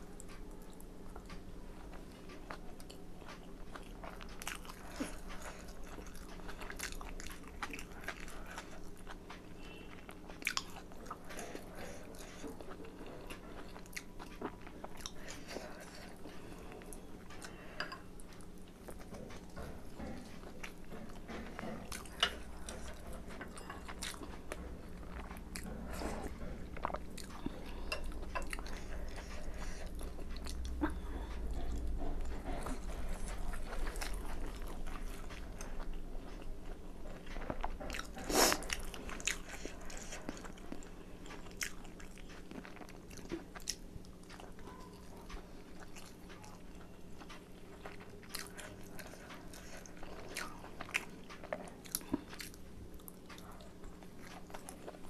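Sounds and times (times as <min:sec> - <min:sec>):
chewing and biting dumplings: 0:00.0 - 0:55.0.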